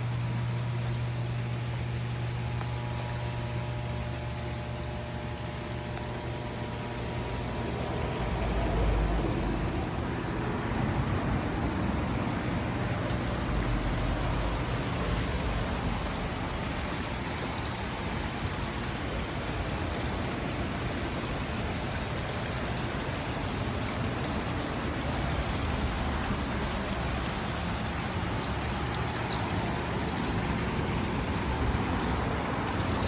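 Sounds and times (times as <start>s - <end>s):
water spraying and splashing: 0.0s - 33.0s.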